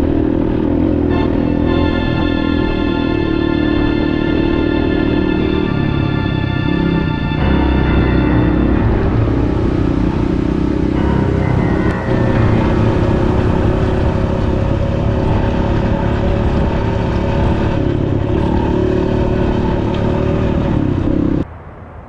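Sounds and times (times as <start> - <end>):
dirt bike engine running: 0.0 - 21.4
wind and riding noise: 0.0 - 22.0.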